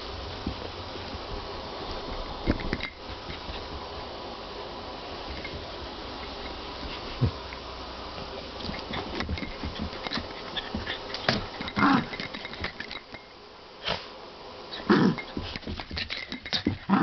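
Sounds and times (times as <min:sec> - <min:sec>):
dogs scuffling: 0:00.4 - 0:04.1, 0:05.2 - 0:13.2, 0:14.7 - 0:17.0.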